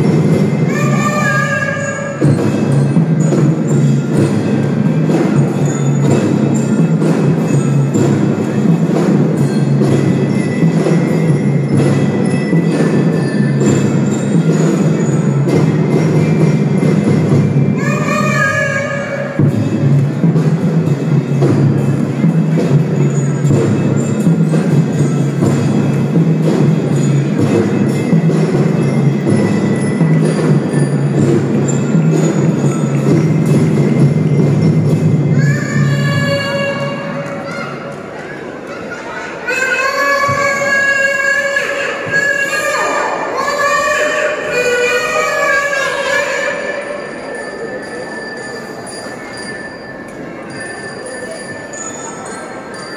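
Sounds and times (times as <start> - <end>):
children's drum band playing: 0.0 - 52.9
ringing pitched percussion: 0.0 - 52.9.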